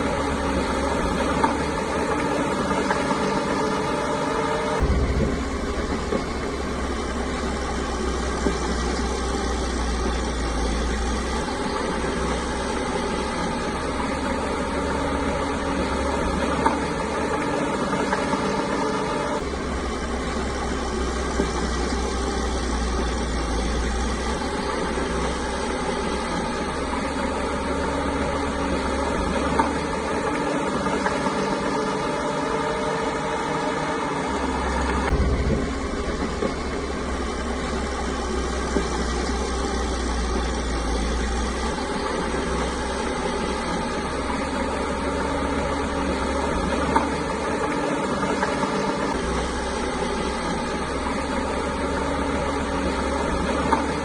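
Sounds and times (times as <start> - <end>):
bulldozer diesel engine rumbling: 0.0 - 54.0.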